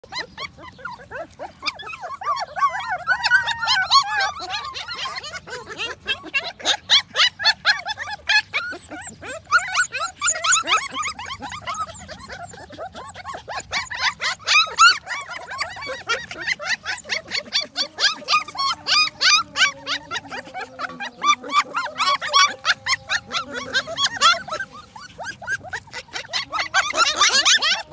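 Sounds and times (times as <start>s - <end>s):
puppies yipping and squealing: 0.0s - 27.9s.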